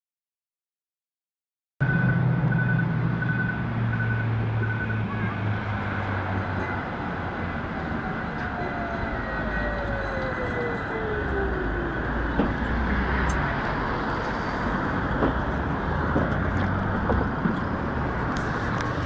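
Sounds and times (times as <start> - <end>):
wheels rumbling on rail: 1.8 - 19.0.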